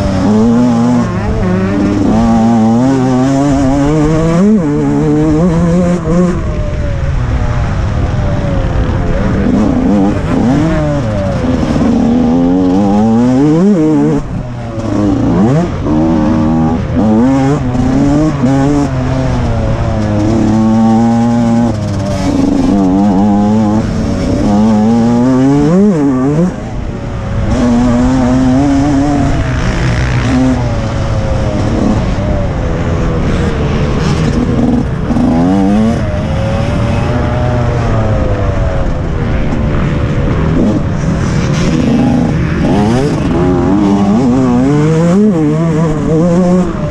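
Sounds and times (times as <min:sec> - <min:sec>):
motocross engine revving: 0:00.0 - 0:06.8, 0:08.3 - 0:46.9.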